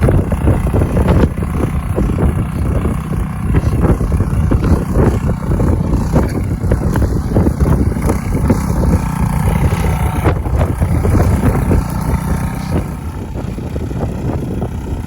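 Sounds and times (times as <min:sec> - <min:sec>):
tiller engine running: 0:00.0 - 0:15.0.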